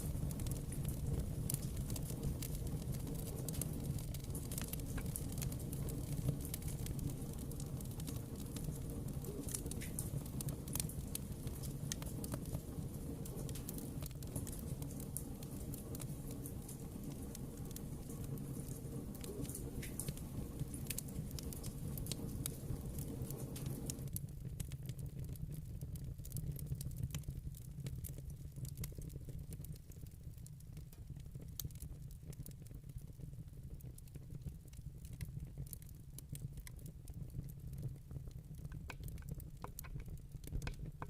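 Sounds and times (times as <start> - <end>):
low fire rumble: 0.0 - 41.0
wood fire crackling and popping: 0.0 - 41.0.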